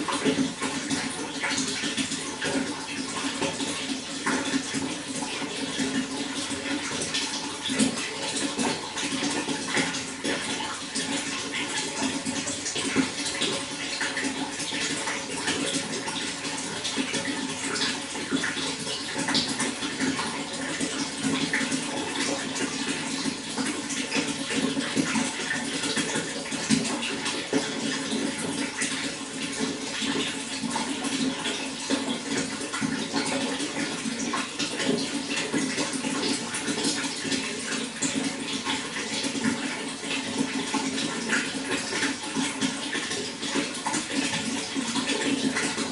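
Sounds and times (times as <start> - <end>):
running water splashing: 0.0 - 45.9.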